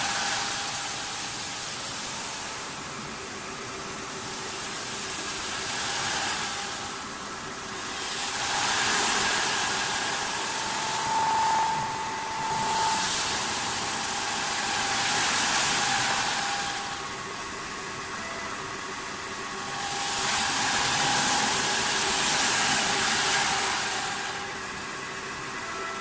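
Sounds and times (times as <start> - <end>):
hissing cutting noise: 0.0 - 25.9
lathe motor whine: 0.0 - 26.0.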